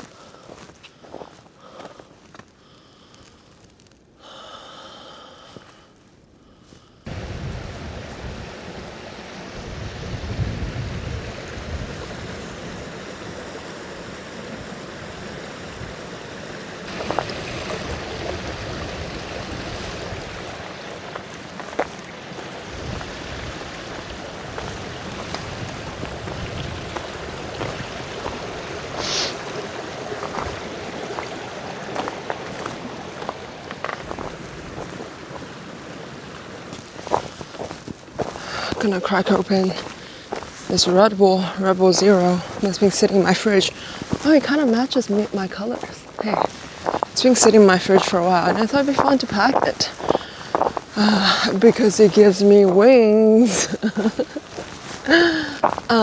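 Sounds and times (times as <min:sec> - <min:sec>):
steady rushing outdoor noise: 0:07.1 - 0:56.0
wind buffeting microphone: 0:07.1 - 0:56.0.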